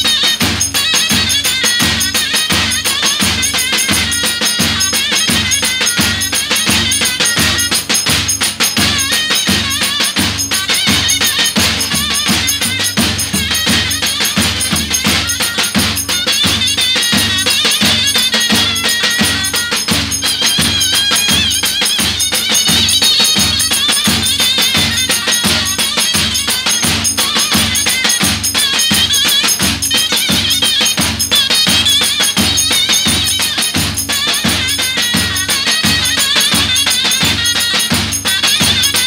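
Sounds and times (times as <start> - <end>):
bass drums beating rhythm: 0.0 - 39.0
shrill zurna folk melody: 0.0 - 39.0.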